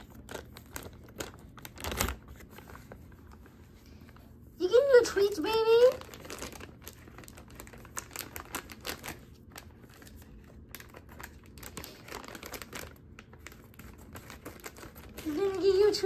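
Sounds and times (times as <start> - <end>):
plastic wrapper rustling: 0.0 - 16.0.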